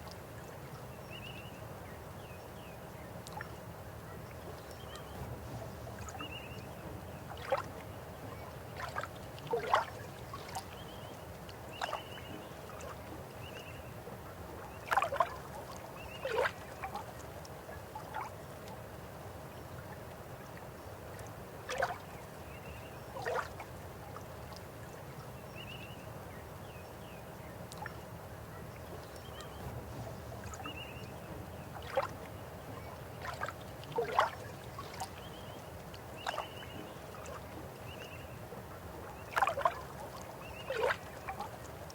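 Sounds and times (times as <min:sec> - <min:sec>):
river water flowing: 0:02.9 - 0:25.4, 0:27.3 - 0:41.9
water splashes and gurgles: 0:03.2 - 0:26.0, 0:27.4 - 0:41.9.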